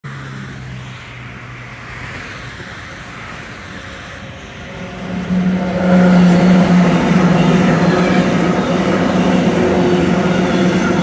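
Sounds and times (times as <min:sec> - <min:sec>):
locomotive hum: 0:01.9 - 0:11.0
train rumble: 0:01.9 - 0:11.0.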